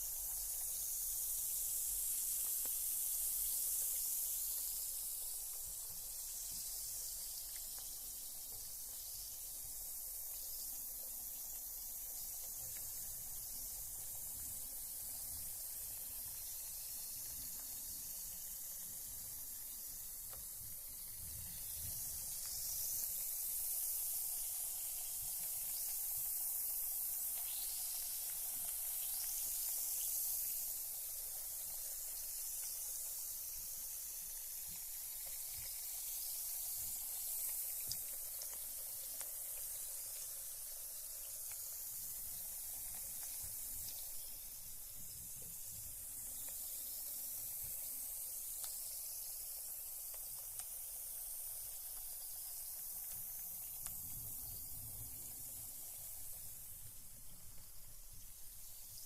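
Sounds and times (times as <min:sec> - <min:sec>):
bath bomb fizzing: 0:00.0 - 0:59.0.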